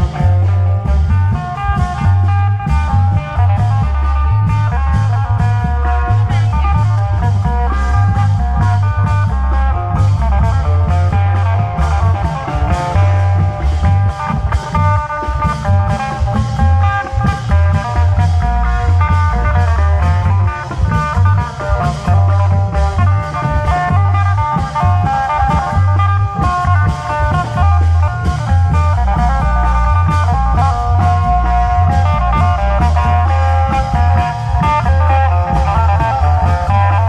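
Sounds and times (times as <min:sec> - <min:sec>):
heavy pulsing bass line: 0:00.0 - 0:37.0
plucked string lead melody: 0:00.0 - 0:37.0
steady drum beats: 0:00.0 - 0:37.0.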